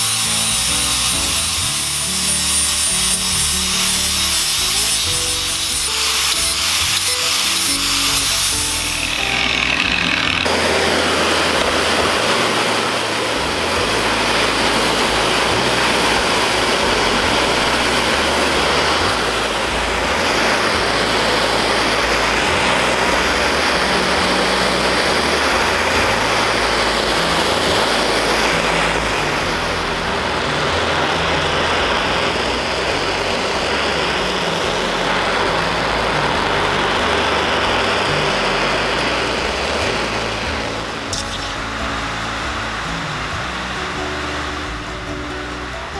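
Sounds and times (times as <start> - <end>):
power grinder grinding steel: 0.0 - 45.9.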